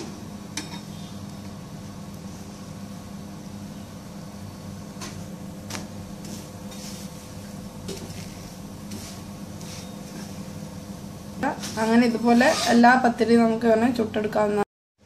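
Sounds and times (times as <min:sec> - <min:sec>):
machine hum: 0:00.0 - 0:12.5.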